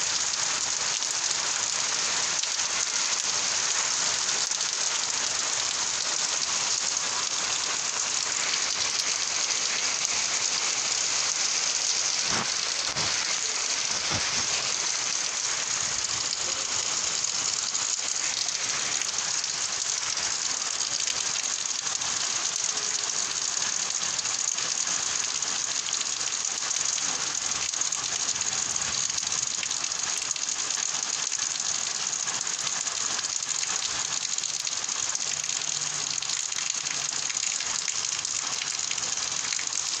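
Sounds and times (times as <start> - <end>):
heavy rain patter: 0.0 - 40.0.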